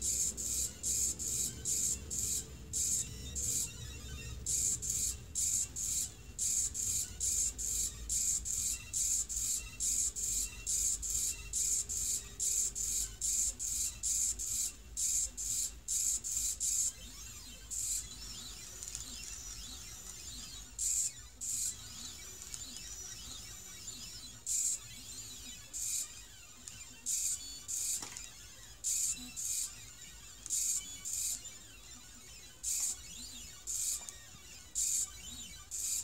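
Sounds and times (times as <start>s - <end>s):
stepper motors whining: 0.0s - 36.0s.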